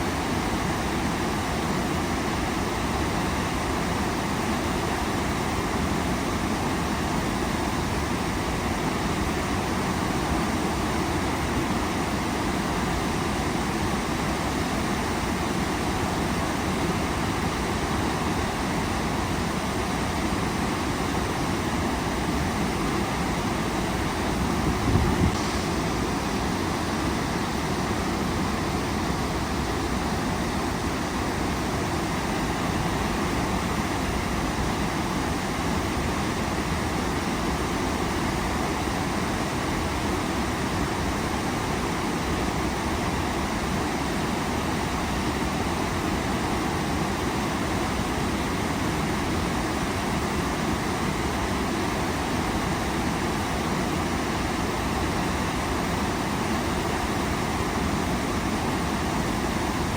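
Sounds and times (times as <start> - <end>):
waterfall roaring: 9.1 - 59.9.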